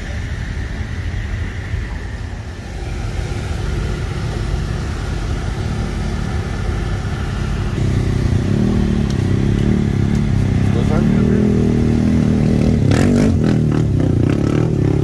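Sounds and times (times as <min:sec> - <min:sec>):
truck engine idling: 0:00.0 - 0:12.2.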